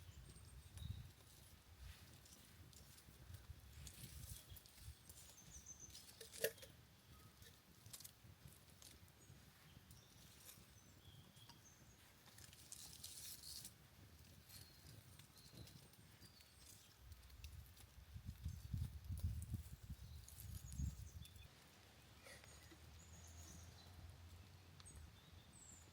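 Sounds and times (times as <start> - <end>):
light clicks and rustles: 0.2 - 21.5.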